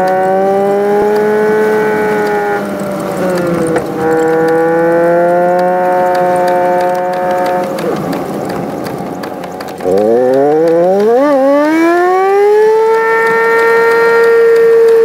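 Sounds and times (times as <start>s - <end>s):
high whining car engine hum: 0.0s - 15.0s.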